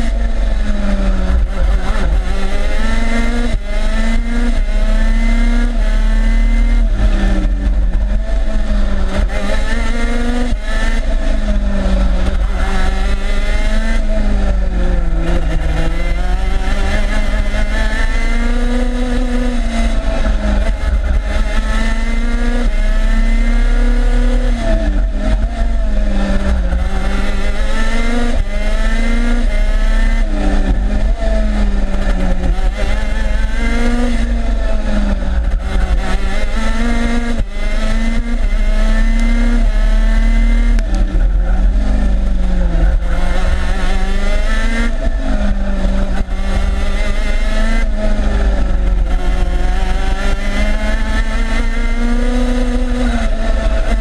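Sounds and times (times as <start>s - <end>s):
kart engine revving through gears: 0.0s - 54.0s.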